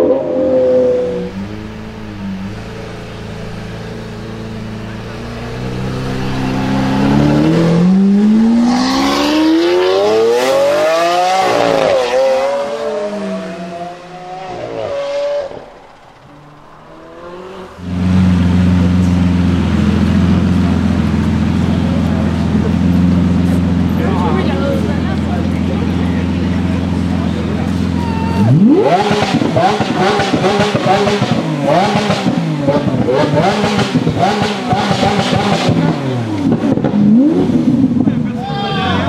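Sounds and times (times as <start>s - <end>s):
sports car engine accelerating: 0.0s - 39.0s
sports car engine idling: 0.4s - 8.5s, 15.6s - 39.0s.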